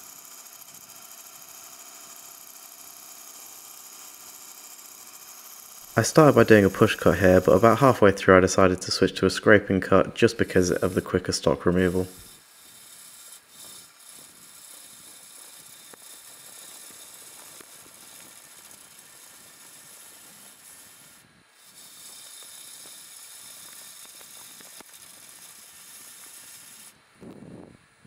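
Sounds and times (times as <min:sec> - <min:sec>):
lathe tool cutting wood: 0:00.0 - 0:27.0.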